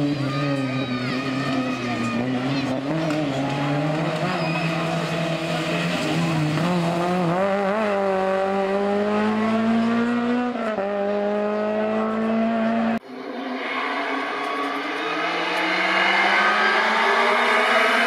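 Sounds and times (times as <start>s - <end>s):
car engine revving high: 1.4s - 13.0s, 13.6s - 18.0s.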